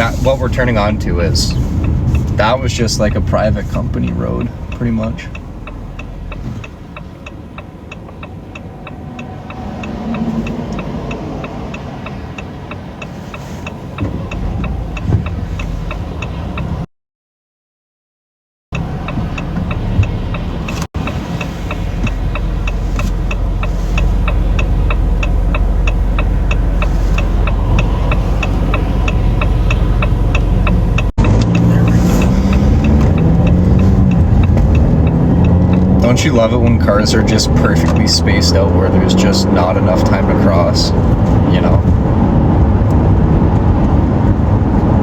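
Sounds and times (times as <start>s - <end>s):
car engine running: 0.0s - 16.9s, 18.8s - 45.0s
turn signal ticking: 0.0s - 16.9s, 18.8s - 45.0s.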